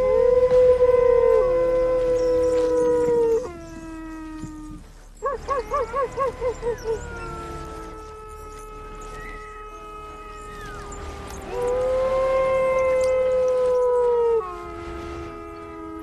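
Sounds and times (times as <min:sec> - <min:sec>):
wolves howling: 0:00.0 - 0:16.0.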